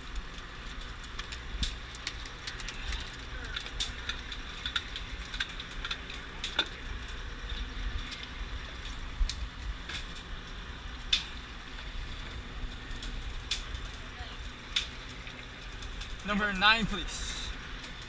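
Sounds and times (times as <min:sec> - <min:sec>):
boat engine rumble: 0:00.0 - 0:18.0
sharp clicks and crackles: 0:00.0 - 0:18.0.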